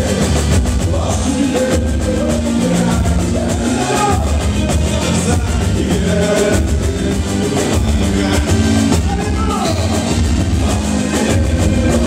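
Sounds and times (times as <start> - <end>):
large drums beating: 0.0 - 12.0
man singing through loudspeakers: 0.0 - 12.0.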